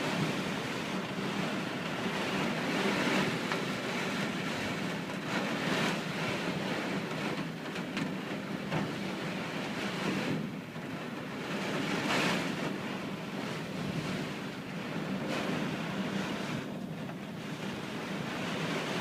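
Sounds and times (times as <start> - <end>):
strong wind gusting through trees: 0.0 - 19.0.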